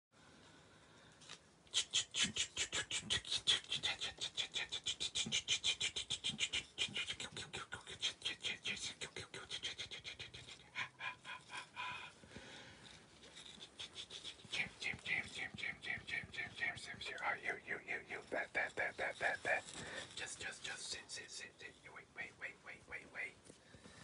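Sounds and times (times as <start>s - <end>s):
rhythmic breathy mouth puffs: 1.0s - 24.0s.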